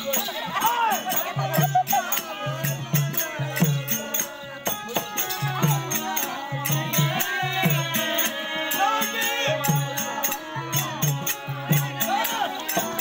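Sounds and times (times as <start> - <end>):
hand drum beat: 0.0 - 13.0
jingling bells: 0.0 - 13.0.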